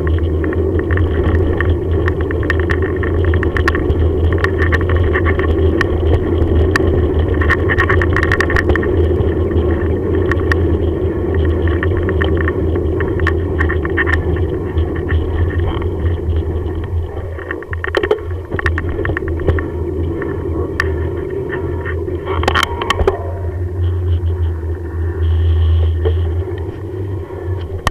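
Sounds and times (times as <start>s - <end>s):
sharp rattling clicks: 0.0s - 24.6s
bicycle tyres rumbling on pavement: 0.0s - 27.9s.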